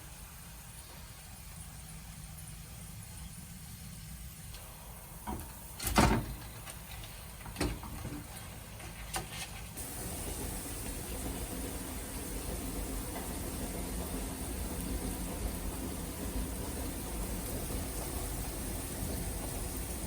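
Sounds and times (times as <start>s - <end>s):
faint hiss: 0.0s - 20.0s.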